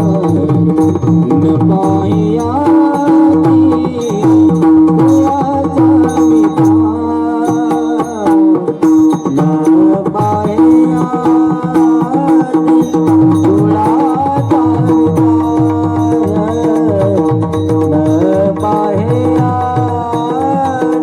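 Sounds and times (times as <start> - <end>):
hand drum rhythm: 0.0 - 21.0.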